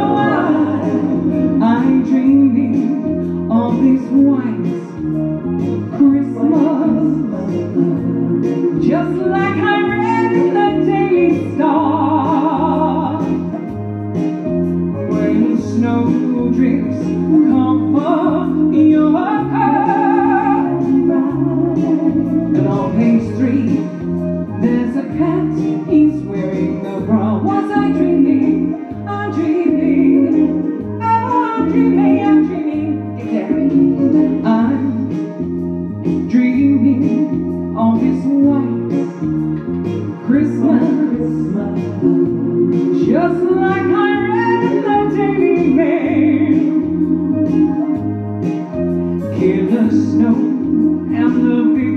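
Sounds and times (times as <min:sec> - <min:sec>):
woman singing: 0:00.0 - 0:05.0, 0:05.9 - 0:13.6, 0:15.1 - 0:35.4, 0:36.2 - 0:39.1, 0:40.2 - 0:48.0, 0:49.2 - 0:51.9
backing track with bass line: 0:00.0 - 0:51.9.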